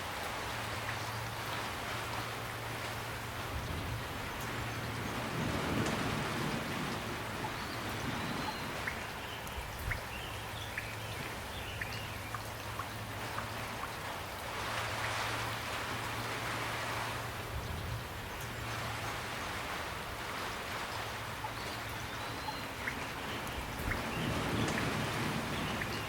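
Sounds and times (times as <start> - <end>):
rain falling: 0.0 - 26.0
raindrops ticking nearby: 0.0 - 26.0.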